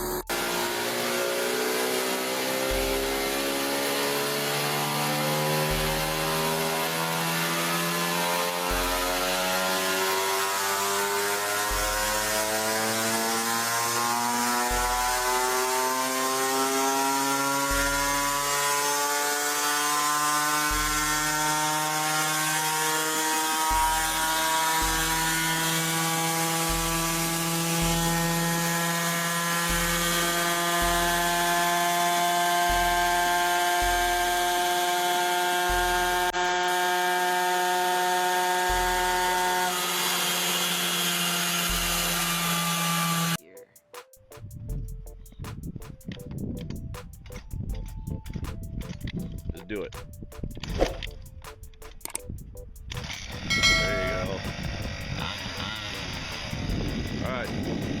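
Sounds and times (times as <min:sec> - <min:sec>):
mini bike engine running: 0:00.0 - 0:43.4, 0:53.0 - 0:58.0.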